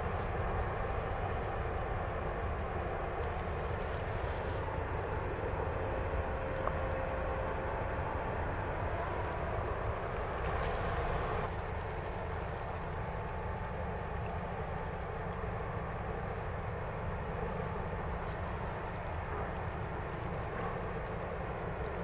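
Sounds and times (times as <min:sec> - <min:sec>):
ship engine low rumble: 0:00.0 - 0:22.0.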